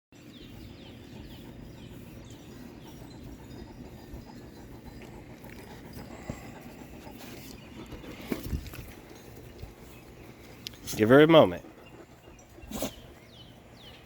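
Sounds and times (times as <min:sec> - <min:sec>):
dog panting: 0:00.2 - 0:14.0.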